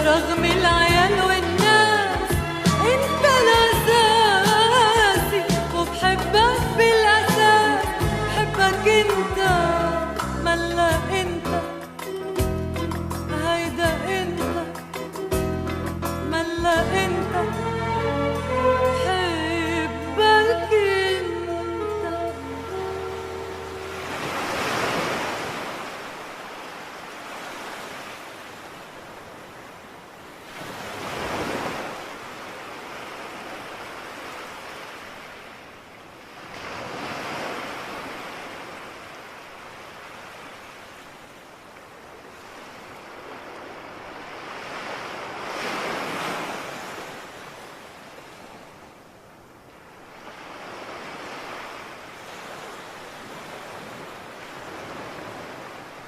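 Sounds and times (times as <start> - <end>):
sea waves breaking on shore: 0.0 - 12.4, 16.2 - 56.0.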